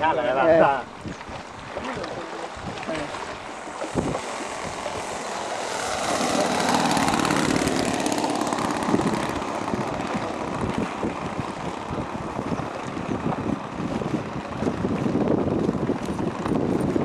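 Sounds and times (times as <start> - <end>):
model plane propellers flying by: 1.2 - 17.0.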